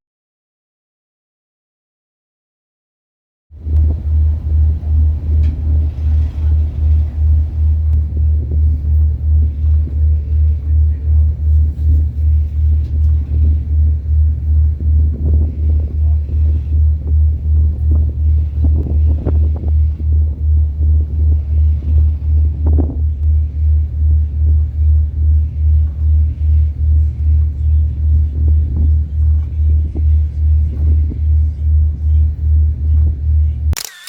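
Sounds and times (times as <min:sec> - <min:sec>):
ferry engine throbbing: 0:03.6 - 0:33.9
faint voices: 0:03.8 - 0:33.7.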